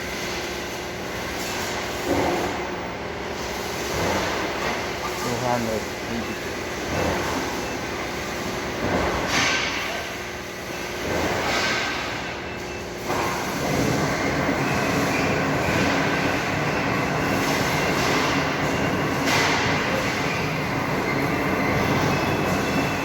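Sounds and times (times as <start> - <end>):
pipe cutting machine rumbling: 0.0 - 23.0.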